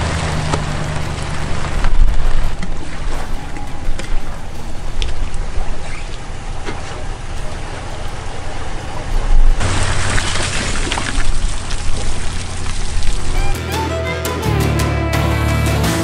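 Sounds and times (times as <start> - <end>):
water splashing off trailer: 0.0 - 13.5
rushing water and wind: 0.0 - 13.6
truck engine running: 0.0 - 16.0.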